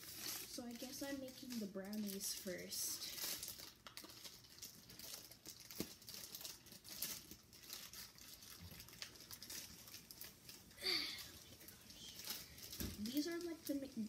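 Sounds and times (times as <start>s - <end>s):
crinkling packaging: 0.0s - 14.0s.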